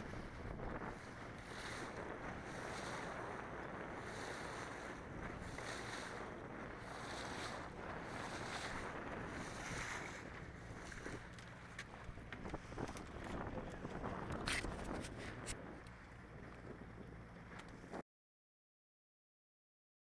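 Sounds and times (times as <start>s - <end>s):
faint low motor hum: 0.0s - 18.0s
wind and water rushing: 0.0s - 18.0s.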